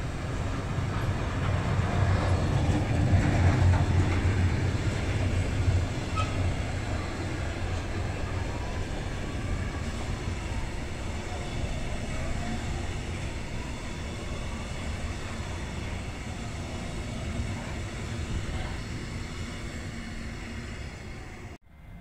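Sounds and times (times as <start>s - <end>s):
train wheels rumbling on rail: 0.0s - 21.6s.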